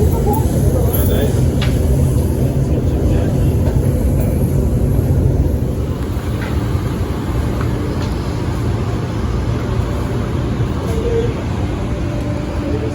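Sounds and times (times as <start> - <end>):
electric train rumbling: 0.0 - 12.9.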